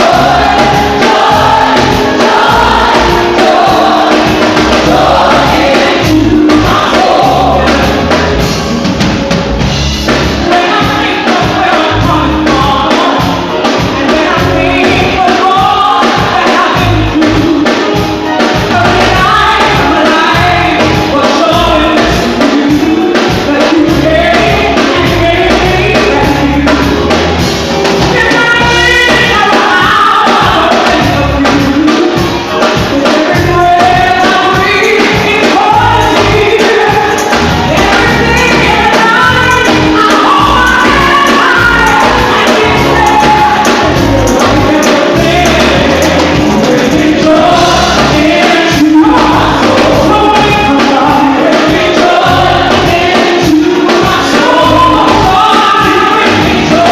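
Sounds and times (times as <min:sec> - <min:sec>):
gospel singers with full band: 0:00.0 - 0:56.9.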